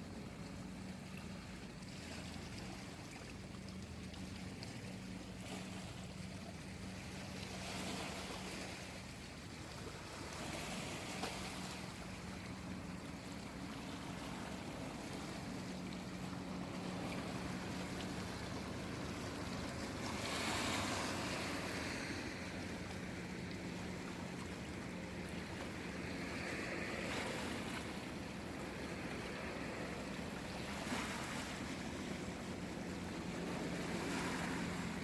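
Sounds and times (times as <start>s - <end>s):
sea waves washing ashore: 0.0s - 35.0s.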